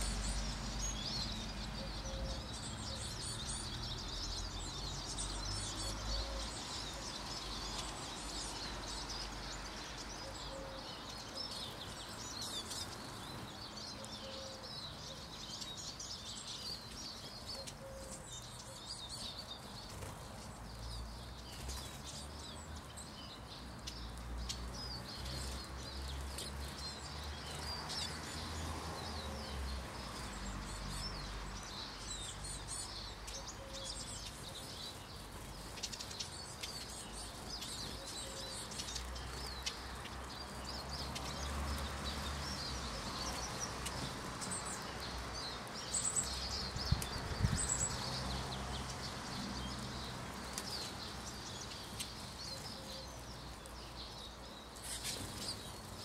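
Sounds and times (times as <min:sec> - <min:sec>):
birds twittering: 0:00.0 - 0:56.0.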